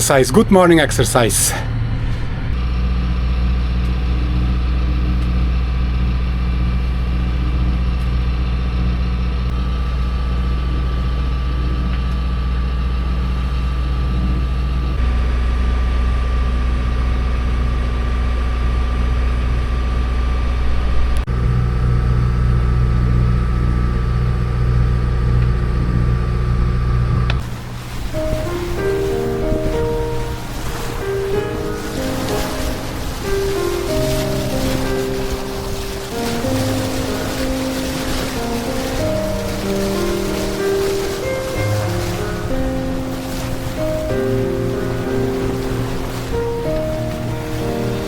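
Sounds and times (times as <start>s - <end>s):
boat engine droning: 0.0s - 48.0s
thin steady whine: 0.0s - 48.0s.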